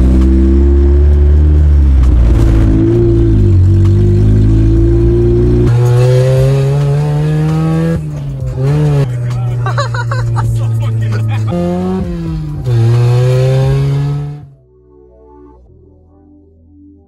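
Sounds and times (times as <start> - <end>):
car engine while driving: 0.0 - 14.5.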